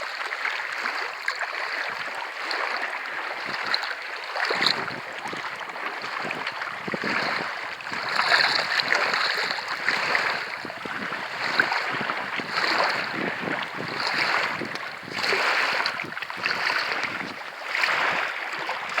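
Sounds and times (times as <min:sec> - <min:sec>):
small waves lapping: 0:00.0 - 0:19.0.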